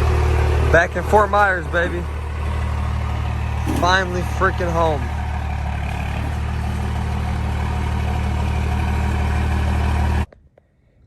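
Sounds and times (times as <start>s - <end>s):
pickup truck engine droning: 0.0s - 10.3s.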